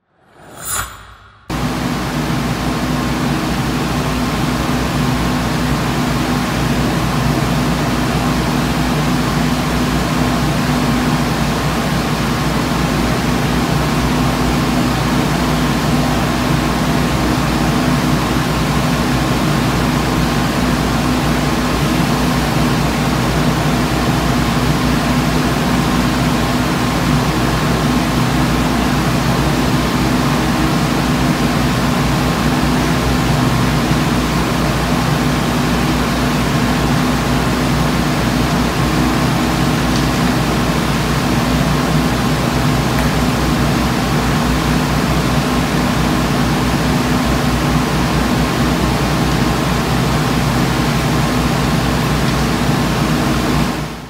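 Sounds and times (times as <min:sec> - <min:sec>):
electric fan running: 0:01.5 - 0:54.0.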